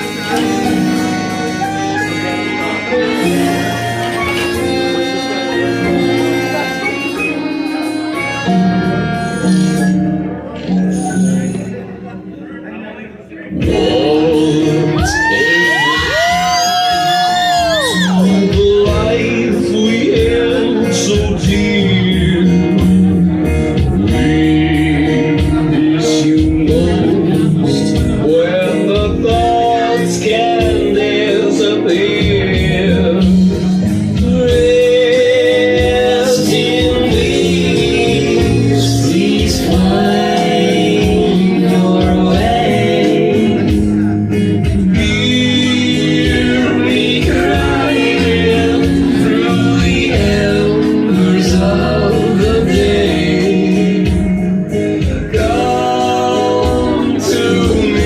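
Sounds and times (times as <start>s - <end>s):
song with singing and instruments: 0.0s - 58.0s.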